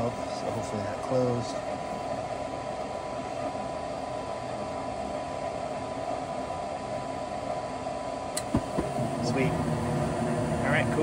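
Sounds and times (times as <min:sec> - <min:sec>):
furnace draft motor humming: 0:00.0 - 0:11.0.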